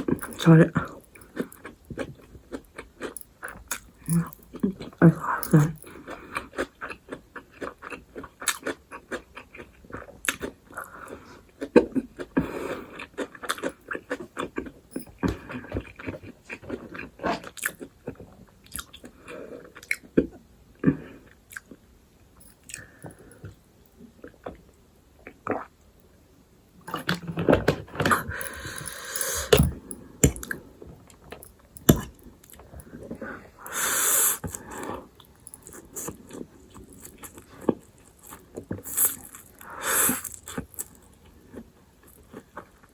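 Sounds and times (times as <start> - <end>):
person chewing noodles: 0.0 - 20.1, 26.9 - 30.7, 31.3 - 42.9.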